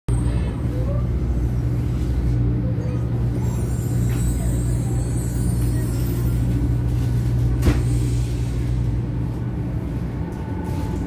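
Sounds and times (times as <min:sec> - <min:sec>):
train interior rumble: 0:00.1 - 0:11.0.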